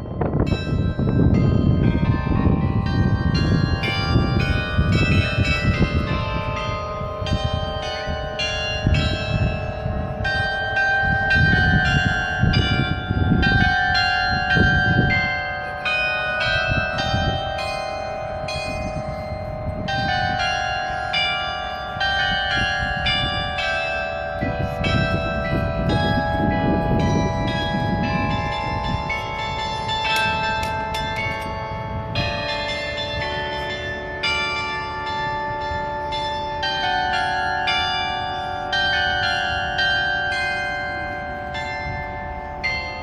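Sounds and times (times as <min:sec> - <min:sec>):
carillon bells playing a tune: 0:00.0 - 0:43.0.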